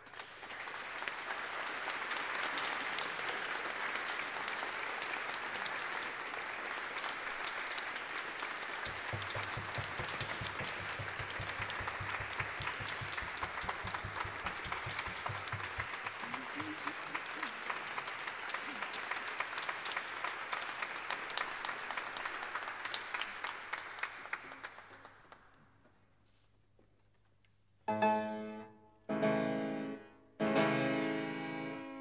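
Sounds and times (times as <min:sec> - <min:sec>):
audience applauding: 0:00.0 - 0:25.7.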